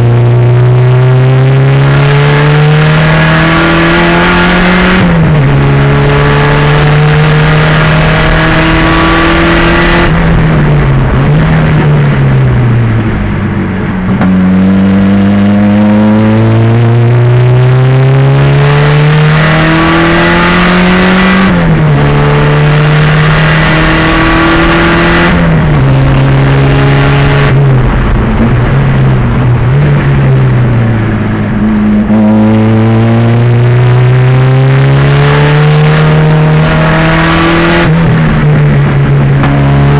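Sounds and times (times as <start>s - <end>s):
turbocharged car engine racing: 0.0s - 39.9s.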